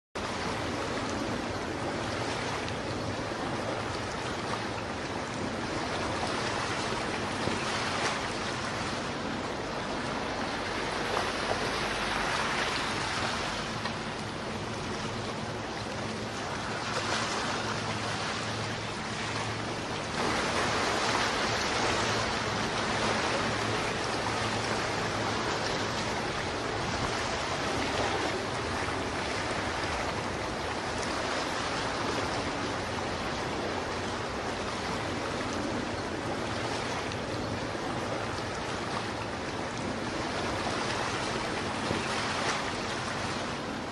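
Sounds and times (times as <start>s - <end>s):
wind: 0.1s - 43.9s
sea water rushing past ship: 0.2s - 43.9s.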